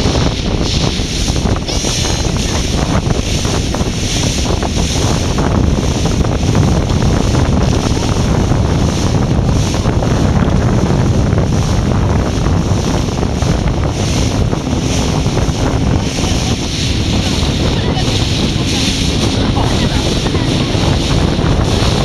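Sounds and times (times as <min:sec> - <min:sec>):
choppy water rushing and splashing: 0:00.0 - 0:22.0
strong wind buffeting microphone: 0:00.0 - 0:22.0.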